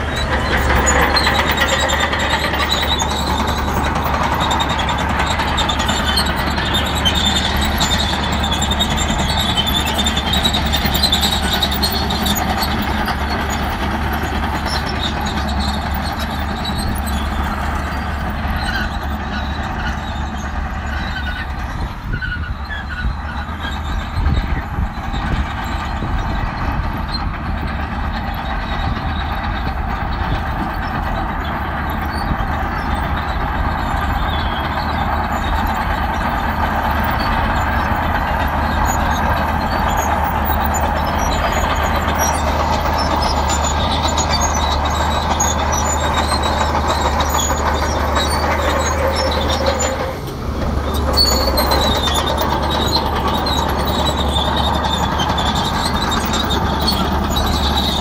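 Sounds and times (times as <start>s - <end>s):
bulldozer diesel engine running: 0.0s - 58.0s
steel tracks squeaking: 0.0s - 58.0s.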